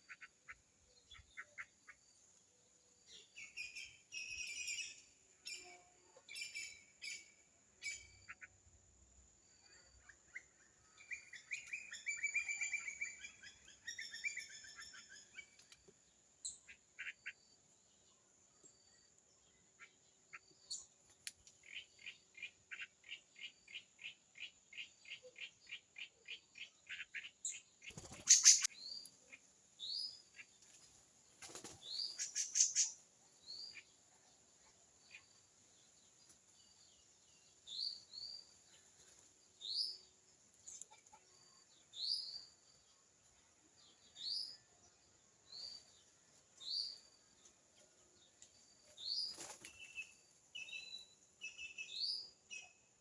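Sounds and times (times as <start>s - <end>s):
small birds calling and singing: 0.0s - 53.0s.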